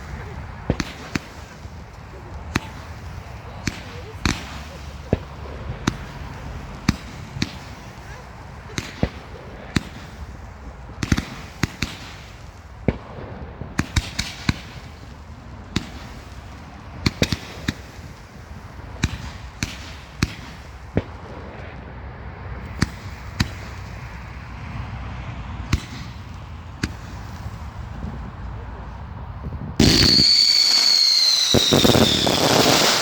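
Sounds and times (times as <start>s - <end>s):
fireworks bangs: 0.0s - 25.0s, 25.6s - 33.0s
fireworks crackling: 0.0s - 25.0s, 25.6s - 29.1s, 29.7s - 33.0s.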